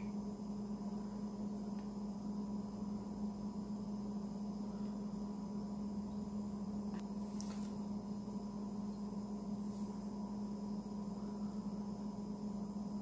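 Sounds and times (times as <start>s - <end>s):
faint high whine: 0.0s - 13.0s
low electrical hum: 0.0s - 13.0s.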